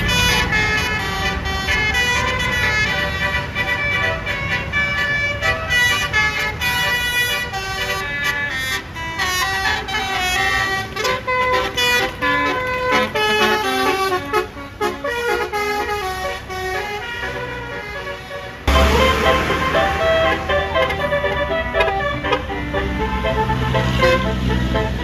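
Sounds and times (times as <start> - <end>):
bus air horn melody: 0.0 - 25.0
bus engine rumble: 0.0 - 25.0.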